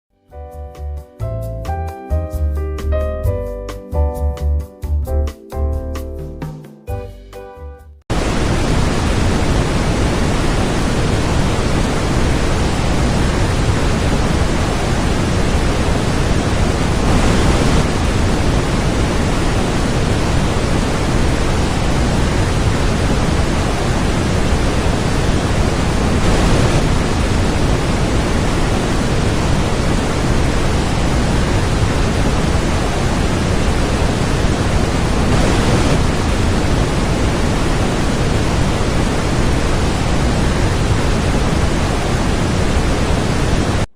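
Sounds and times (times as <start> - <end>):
loud steady hiss: 8.1 - 43.9.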